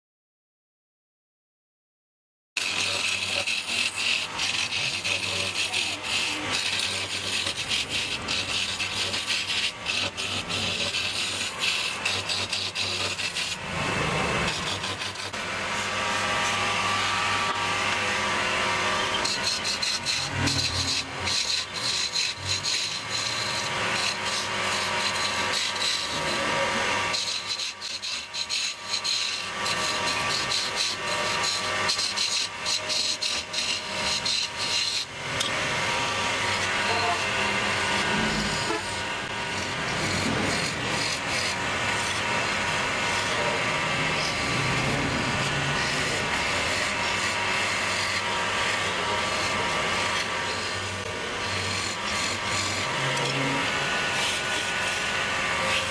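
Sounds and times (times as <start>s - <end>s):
chisel scraping spinning wood: 2.6s - 55.9s
lathe motor hum: 2.6s - 55.9s.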